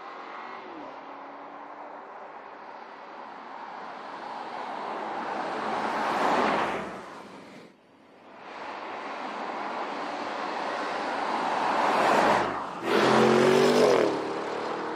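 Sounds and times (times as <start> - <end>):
tyres on the road: 0.0 - 14.9.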